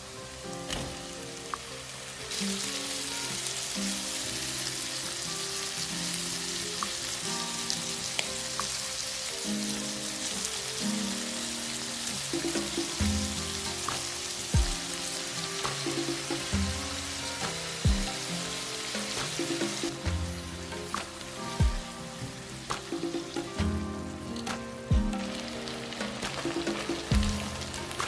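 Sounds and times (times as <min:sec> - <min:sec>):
background music: 0:00.0 - 0:28.0
food sizzling in a frying pan: 0:00.0 - 0:28.0.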